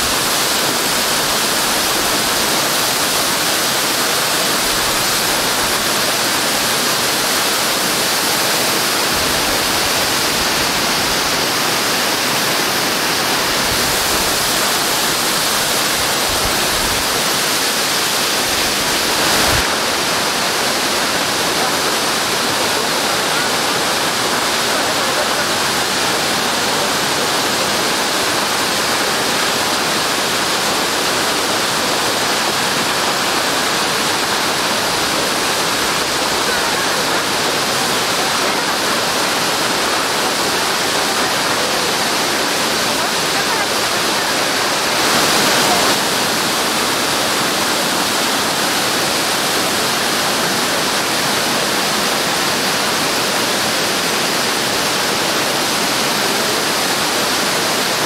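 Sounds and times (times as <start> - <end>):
waterfall rushing onto rocks: 0.0 - 58.0.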